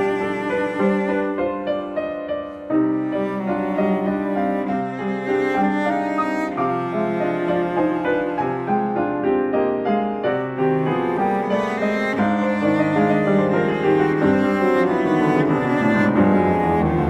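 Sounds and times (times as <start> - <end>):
cello long singing notes: 0.0 - 17.0
piano chords: 0.0 - 17.0.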